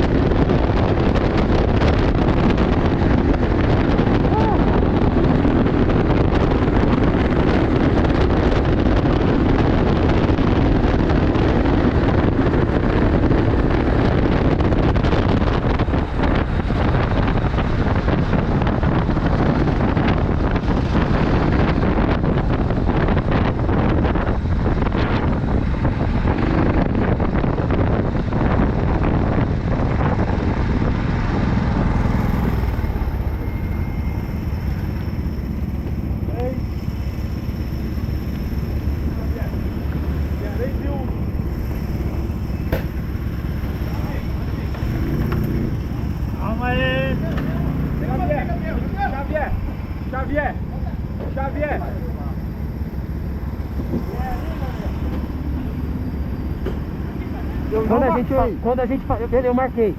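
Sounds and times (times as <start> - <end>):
go-kart engines running: 0.0 - 59.9
wind buffeting microphone: 0.0 - 59.9.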